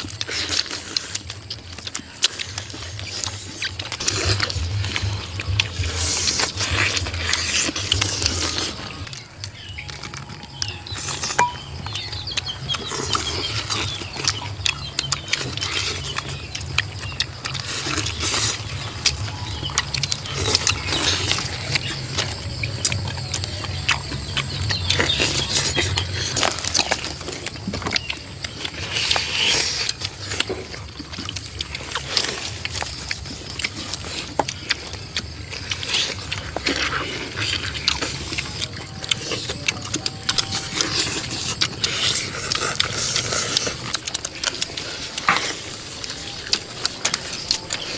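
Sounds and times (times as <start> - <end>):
people chewing and smacking: 0.0 - 47.9.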